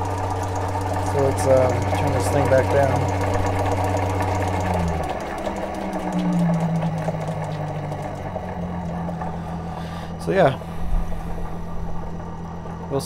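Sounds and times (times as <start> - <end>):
fast clicking of motor: 0.0 - 13.0
motor humming: 0.0 - 13.0.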